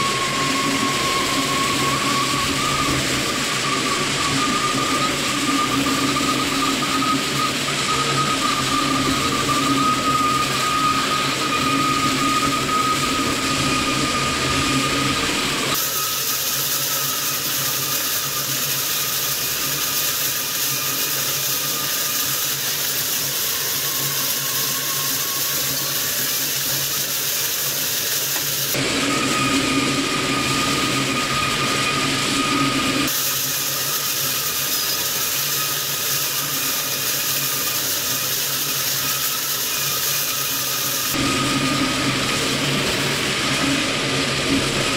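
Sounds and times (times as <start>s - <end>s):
high whine: 0.0s - 44.9s
industrial shredder running: 0.0s - 44.9s.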